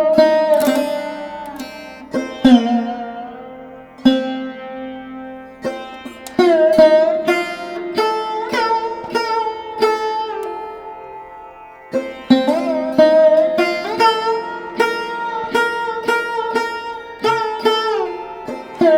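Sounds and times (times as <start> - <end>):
plucked string instrument melody: 0.0 - 18.9.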